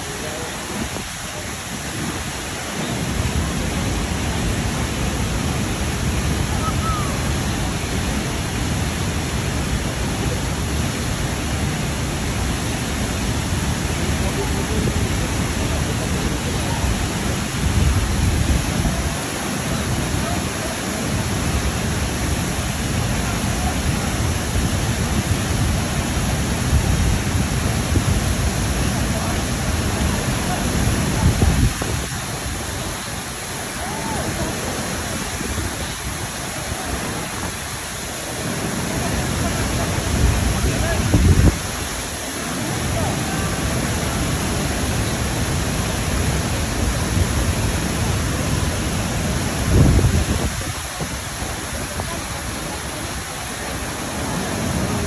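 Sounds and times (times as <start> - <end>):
waterfall rushing: 0.0 - 55.0
wind gusts on microphone: 0.0 - 55.0.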